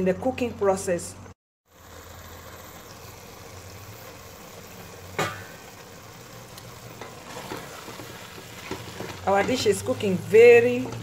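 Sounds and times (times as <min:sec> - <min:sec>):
pot cooking with steady hiss: 0:00.0 - 0:11.0.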